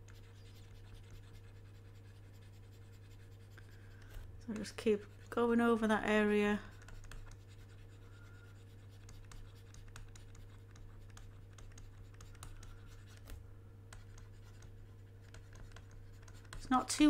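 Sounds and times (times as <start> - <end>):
stylus scratching on tablet: 0.0 - 17.0.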